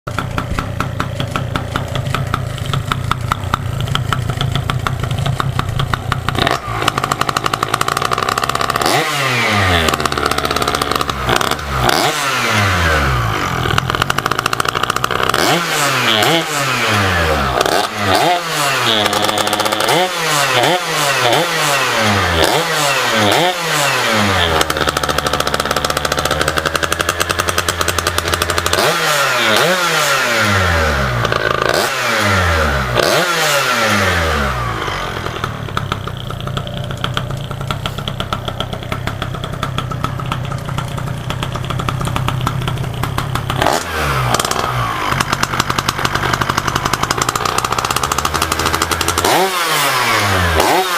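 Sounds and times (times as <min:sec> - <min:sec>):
small engine revving: 0:00.2 - 0:50.9.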